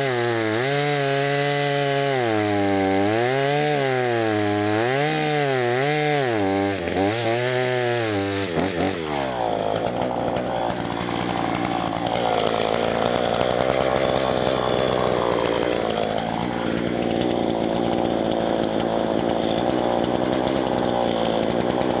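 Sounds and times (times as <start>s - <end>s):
chainsaw revving and idling: 0.0s - 22.0s.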